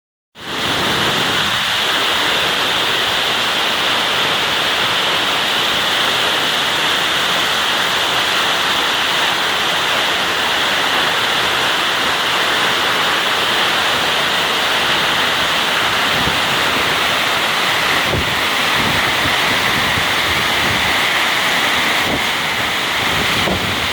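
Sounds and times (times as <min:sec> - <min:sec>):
waterfall pouring: 0:00.5 - 0:23.9.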